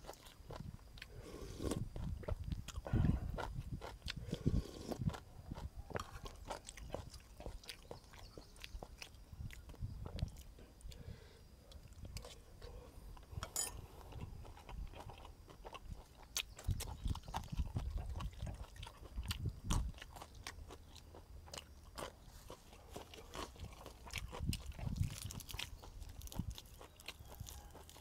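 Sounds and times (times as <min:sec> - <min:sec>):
person chewing and crunching: 0:00.0 - 0:11.0, 0:11.6 - 0:28.0.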